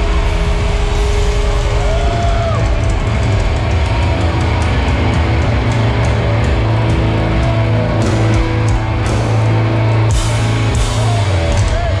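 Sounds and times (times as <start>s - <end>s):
loud live hardcore band: 0.0s - 12.0s.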